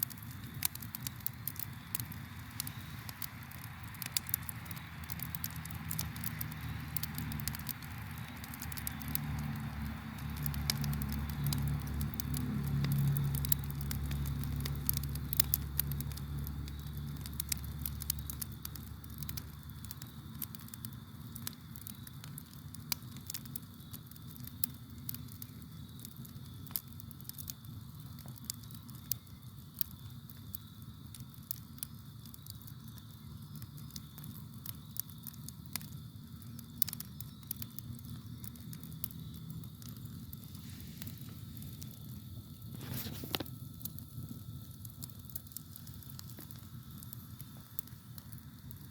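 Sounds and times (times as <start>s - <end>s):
campfire crackling and popping: 0.0s - 48.9s
crickets chirping: 0.0s - 48.9s
low rumble of flames: 0.0s - 48.9s.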